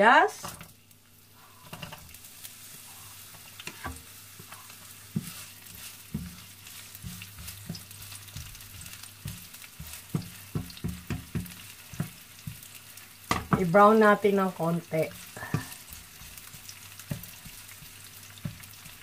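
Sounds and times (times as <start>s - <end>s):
onions sizzling in oil: 0.0s - 19.0s
wooden spatula clicking and scraping: 1.4s - 13.8s, 15.0s - 19.0s.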